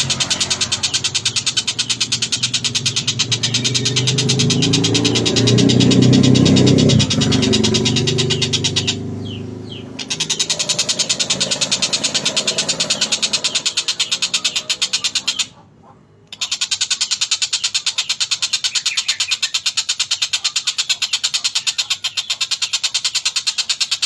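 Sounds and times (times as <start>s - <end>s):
bird harsh chattering: 0.0s - 24.0s.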